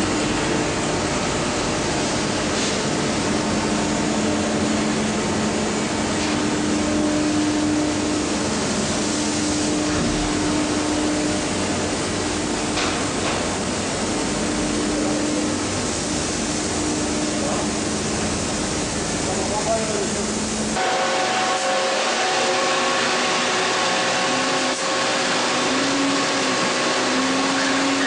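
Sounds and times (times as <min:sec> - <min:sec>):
laundry machinery roaring: 0:00.0 - 0:28.0.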